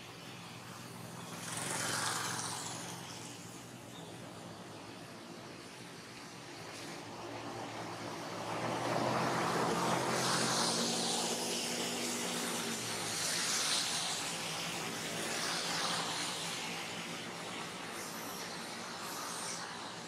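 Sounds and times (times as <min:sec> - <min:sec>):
rush of passing vehicle: 0:00.0 - 0:20.0.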